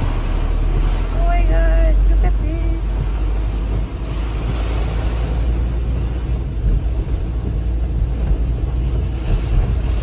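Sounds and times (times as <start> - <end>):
heavy rain on windscreen: 0.0 - 10.0
road noise: 0.0 - 10.0
wind buffeting a van: 0.0 - 10.0.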